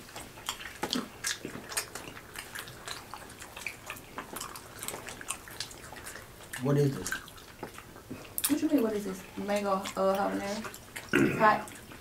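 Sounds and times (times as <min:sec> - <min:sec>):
people chewing and smacking: 0:00.0 - 0:12.0.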